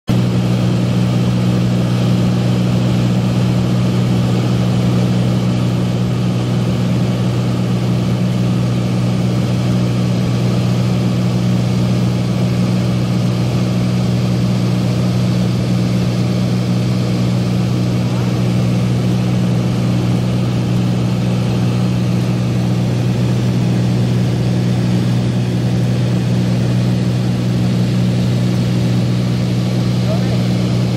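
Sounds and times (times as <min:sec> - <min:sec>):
airplane engine drone: 0:00.1 - 0:30.9.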